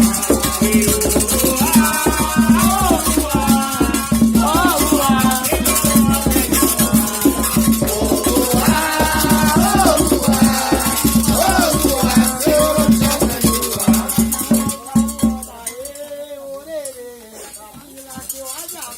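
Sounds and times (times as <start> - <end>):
hand drums beating fast: 0.0 - 15.7
shaken rattle: 0.0 - 16.1, 16.8 - 18.9
voices singing: 0.0 - 18.9.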